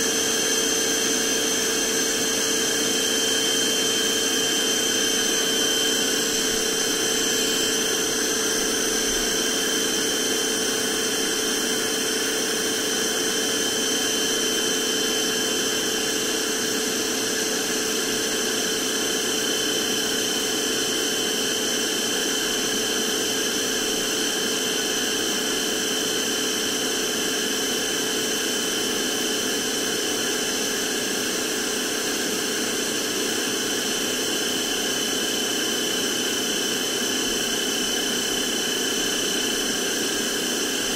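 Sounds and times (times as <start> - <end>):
handheld vacuum cleaner running: 0.0 - 40.9.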